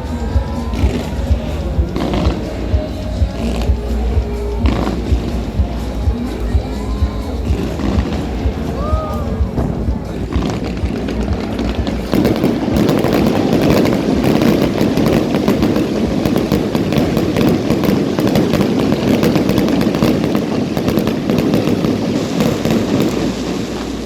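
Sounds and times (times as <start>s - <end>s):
fireworks popping and crackling: 0.0s - 24.0s.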